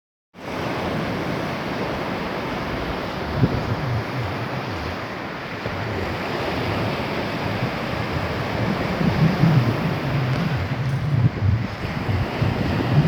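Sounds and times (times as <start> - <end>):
rushing water: 0.4 - 13.0
wind buffeting microphone: 0.5 - 13.0.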